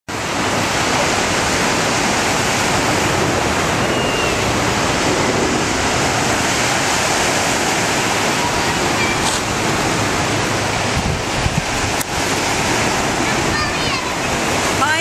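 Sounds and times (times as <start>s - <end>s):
small waves washing onto sand: 0.1s - 15.0s
wind: 0.1s - 15.0s.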